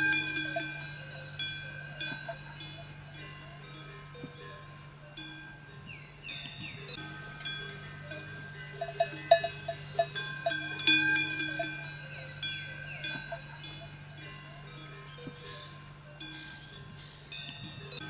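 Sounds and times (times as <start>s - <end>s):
metal bells clanking: 0.0s - 18.0s
steady low hum: 0.0s - 18.0s.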